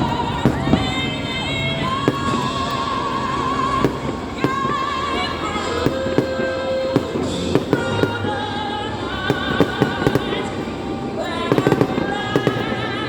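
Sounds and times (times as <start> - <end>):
fireworks banging: 0.0 - 13.0
loud music with wavering melody: 0.0 - 13.0.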